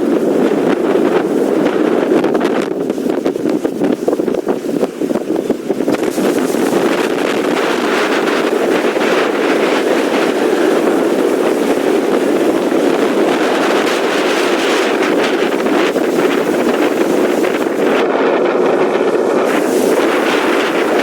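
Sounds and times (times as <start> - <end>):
surf: 0.0 - 21.0
wind rushing over microphone: 0.0 - 21.0.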